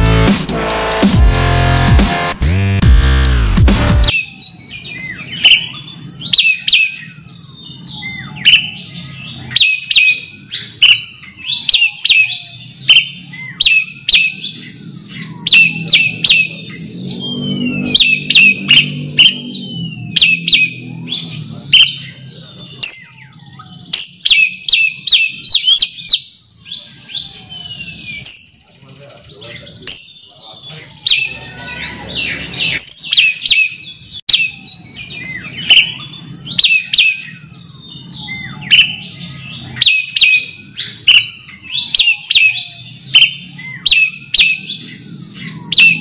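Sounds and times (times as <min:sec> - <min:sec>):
bird singing whistled notes: 0:04.1 - 0:46.0.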